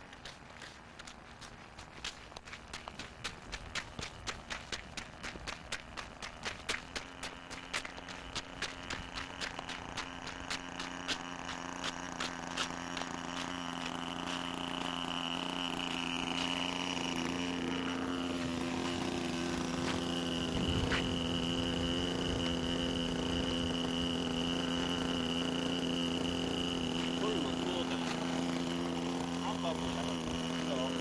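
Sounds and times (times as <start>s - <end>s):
model airplane engine buzzing: 0.0s - 31.0s.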